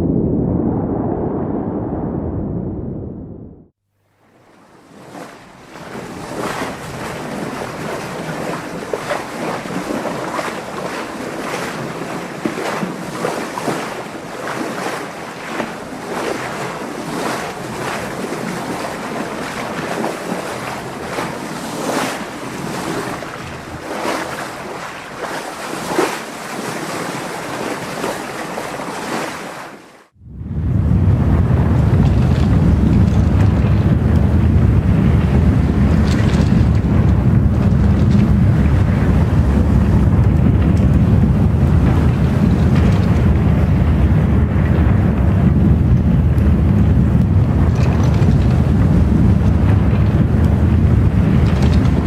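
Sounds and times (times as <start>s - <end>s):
water splashing and lapping: 4.1s - 52.0s.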